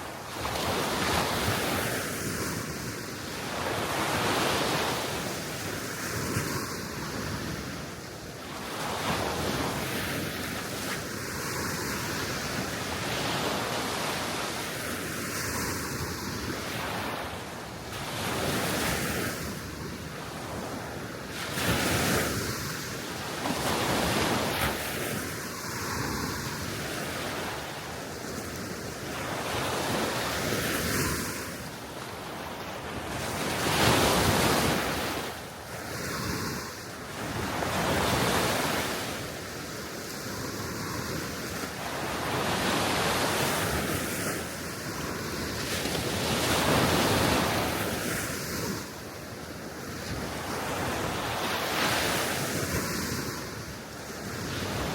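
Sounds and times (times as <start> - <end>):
small waves washing ashore: 0.0 - 54.9.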